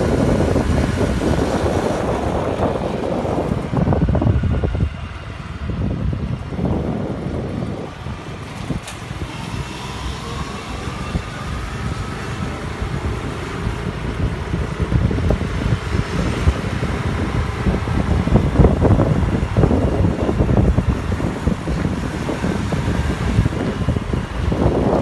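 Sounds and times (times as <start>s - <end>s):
motorcycle engine: 0.0s - 25.0s
wind buffeting microphone: 0.0s - 25.0s.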